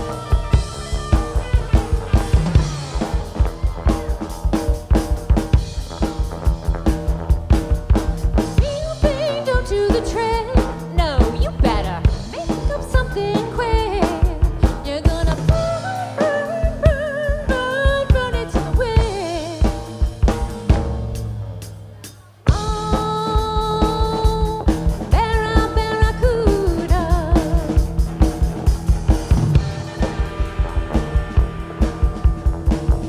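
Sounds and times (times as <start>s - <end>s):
bending lead guitar line: 0.0s - 33.0s
drum kit beat: 0.0s - 33.0s.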